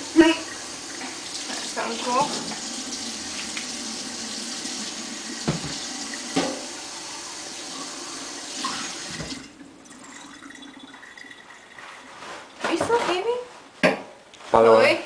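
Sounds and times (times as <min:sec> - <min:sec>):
water running: 0:00.0 - 0:13.5.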